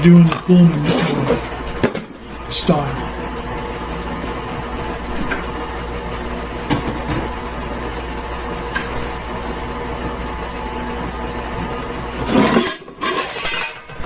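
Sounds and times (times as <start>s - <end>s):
stand mixer running: 0.0s - 13.0s.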